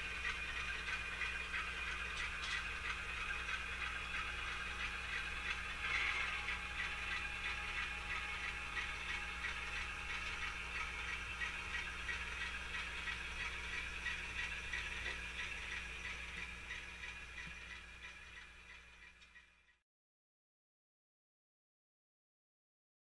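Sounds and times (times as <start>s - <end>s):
model train rattling on track: 0.0s - 19.2s
regular ticking: 0.0s - 19.5s
low hum: 0.0s - 19.7s.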